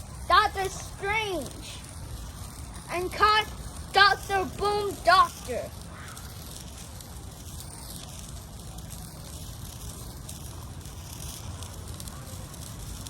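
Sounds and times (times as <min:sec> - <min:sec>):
sparkler fizzing: 0:00.0 - 0:13.0.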